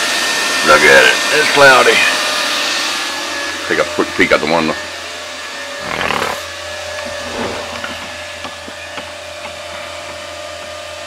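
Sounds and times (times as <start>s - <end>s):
computer fans whirring: 0.0s - 11.0s.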